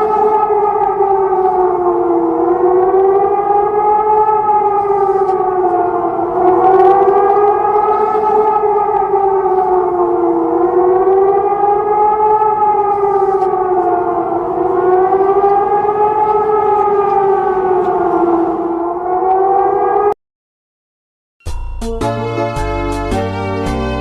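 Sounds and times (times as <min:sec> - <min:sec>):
siren wailing in chord: 0:00.0 - 0:20.2, 0:22.0 - 0:24.0.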